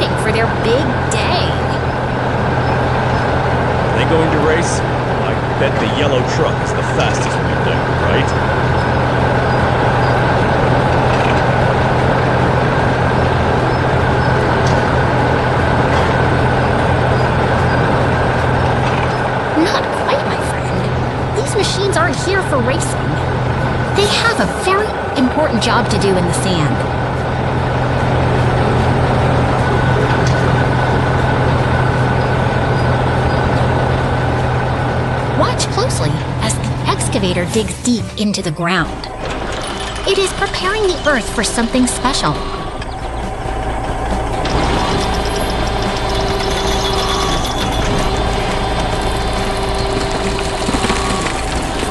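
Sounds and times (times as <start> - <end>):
heavy machine engines rumbling: 0.0 - 51.9.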